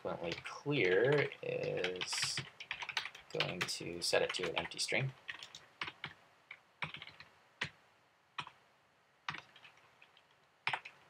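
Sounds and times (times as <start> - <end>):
keyboard typing: 0.2 - 7.8, 8.4 - 8.6, 9.3 - 11.0.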